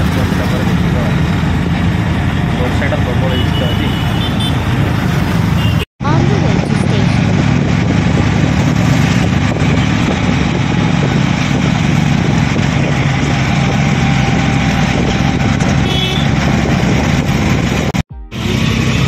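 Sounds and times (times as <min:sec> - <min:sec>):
auto-rickshaw engine running: 0:00.0 - 0:19.0.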